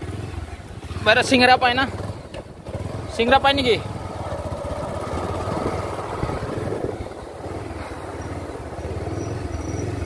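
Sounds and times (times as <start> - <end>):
motorcycle engine running: 0.0 - 10.0
road and wind noise hiss: 0.0 - 10.0.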